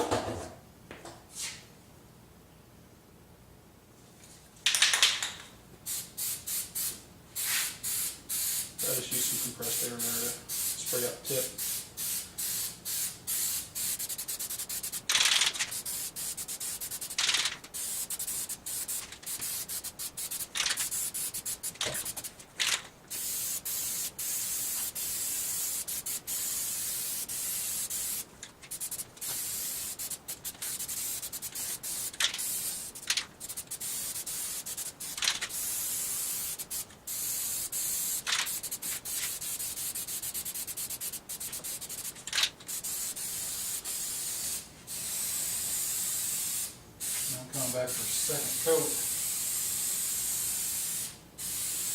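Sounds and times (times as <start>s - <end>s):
short spray puffs: 5.9s - 51.9s
spray can hissing: 5.9s - 51.9s.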